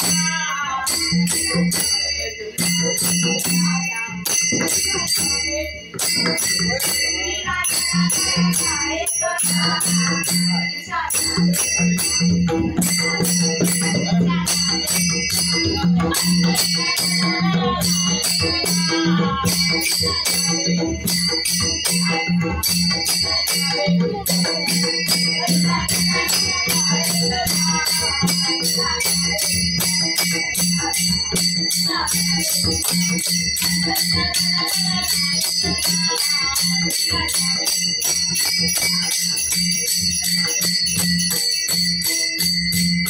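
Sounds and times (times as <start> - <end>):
women singing: 0.0 - 41.0.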